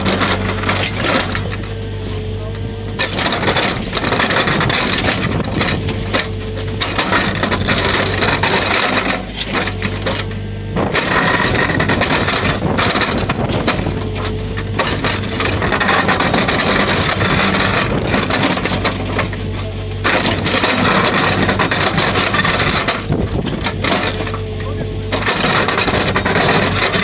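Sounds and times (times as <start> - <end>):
diesel engine under load: 0.0 - 27.0.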